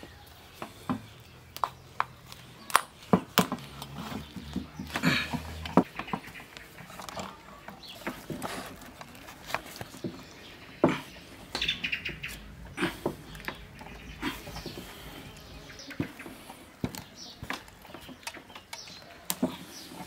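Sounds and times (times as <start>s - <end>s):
birds chirping: 0.0s - 20.0s
skewers clicking and tapping: 0.0s - 20.0s.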